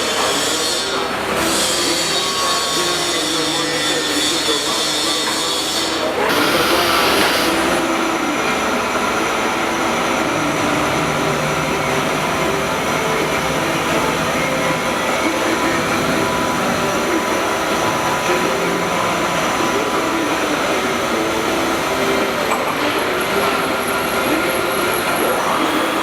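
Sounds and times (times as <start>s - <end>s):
cutter working metal: 0.0s - 26.0s
milling machine spindle whining: 0.0s - 26.0s.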